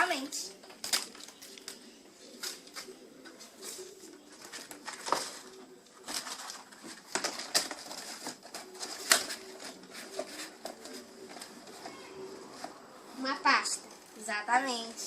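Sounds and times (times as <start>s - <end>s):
folder rustling: 0.6s - 13.1s.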